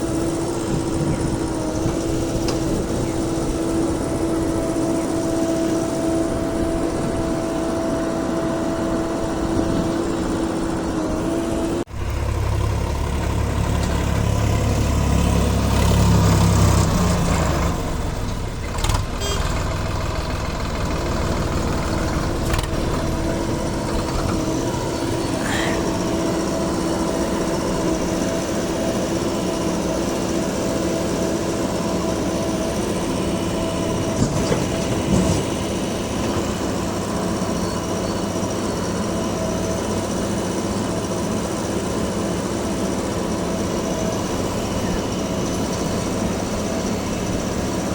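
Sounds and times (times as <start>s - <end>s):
heavy deep rumble: 0.0s - 38.5s
diesel engines running: 0.0s - 47.9s.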